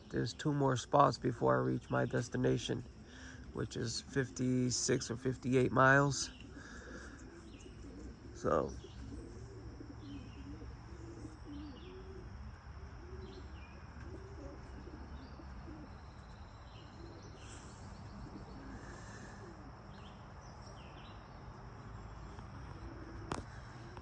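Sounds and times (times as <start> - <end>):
pigeons cooing: 0.0 - 24.0
small birds chirping: 0.0 - 24.0
high insect whine: 2.0 - 24.0.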